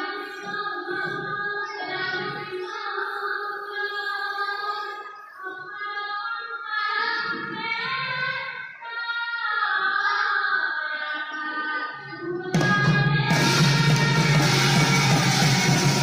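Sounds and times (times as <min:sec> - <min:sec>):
women singing devotional song: 0:00.0 - 0:16.0.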